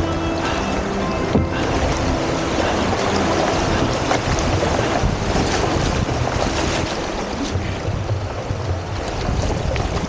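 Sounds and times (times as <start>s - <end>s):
river rapids rushing over rocks: 0.0s - 10.0s
wind buffeting microphone: 0.0s - 10.0s.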